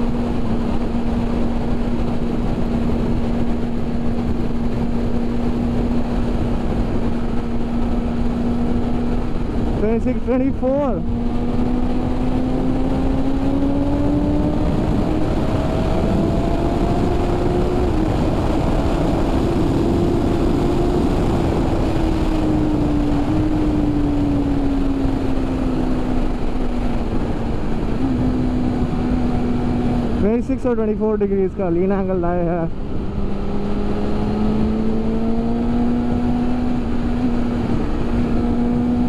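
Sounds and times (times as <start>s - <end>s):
wind noise on microphone: 0.0s - 39.0s.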